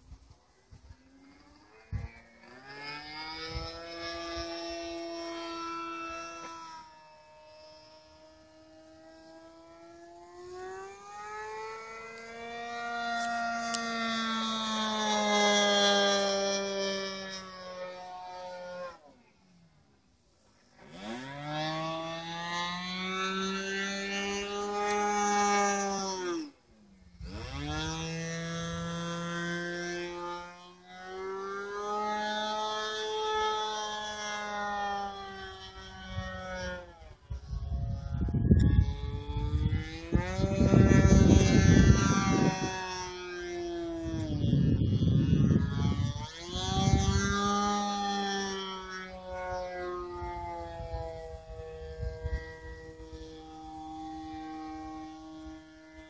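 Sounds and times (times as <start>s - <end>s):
model plane engine whining: 0.0s - 56.0s.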